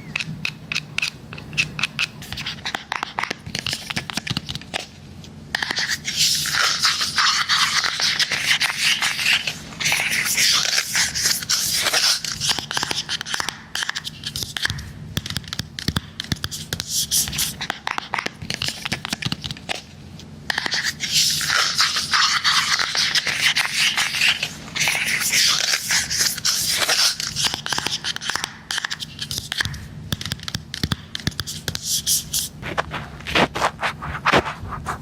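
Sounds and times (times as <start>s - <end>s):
scratching and tapping on device: 0.0s - 19.9s, 20.5s - 35.0s.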